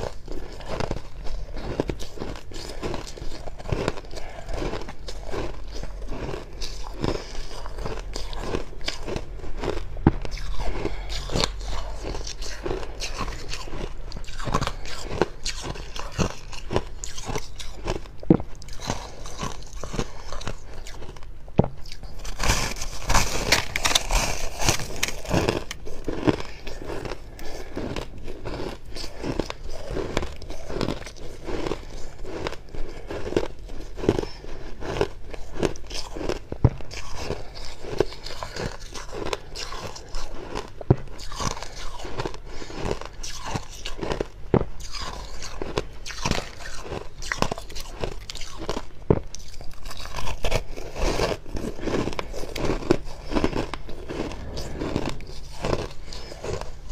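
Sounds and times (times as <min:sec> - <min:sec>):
chewing crunchy frost: 0:00.0 - 0:56.9.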